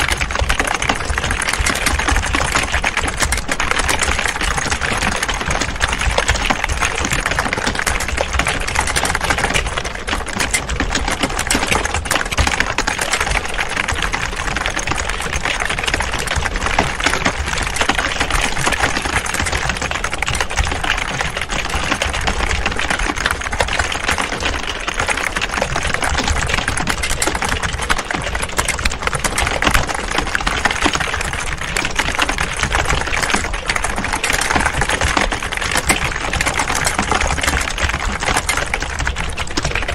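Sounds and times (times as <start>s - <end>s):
many keyboards typing: 0.0s - 39.9s.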